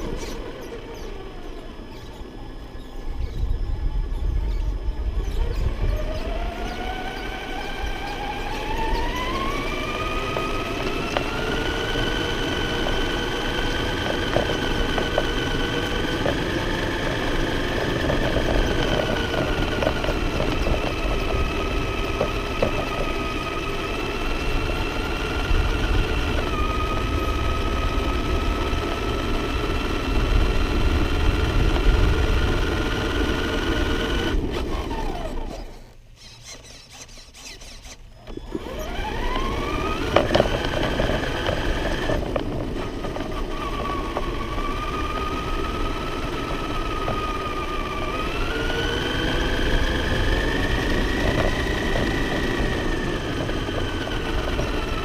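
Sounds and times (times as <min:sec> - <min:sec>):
rc truck motor whining: 0:00.0 - 0:55.0.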